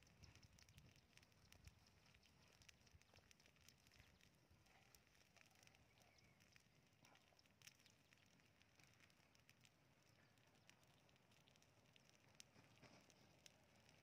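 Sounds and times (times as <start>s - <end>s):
straw fire crackling: 0.0s - 14.0s.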